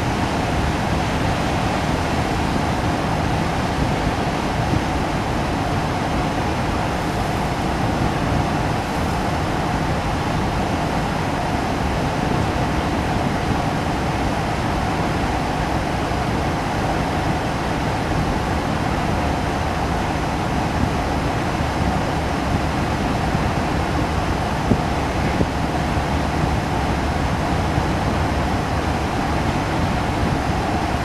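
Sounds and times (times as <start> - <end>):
constant hum: 0.0 - 31.0.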